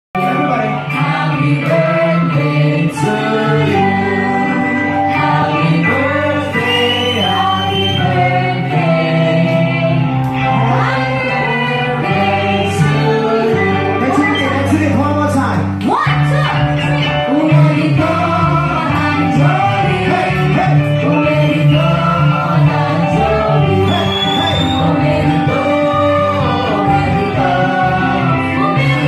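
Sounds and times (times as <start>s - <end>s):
people singing into microphones: 0.2s - 15.1s, 16.2s - 29.0s
music: 0.2s - 29.0s.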